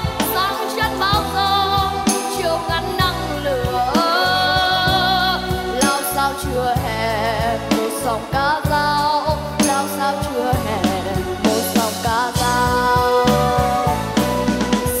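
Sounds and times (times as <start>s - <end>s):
child singing with vibrato: 0.0s - 14.2s
instrumental backing music: 0.0s - 15.0s.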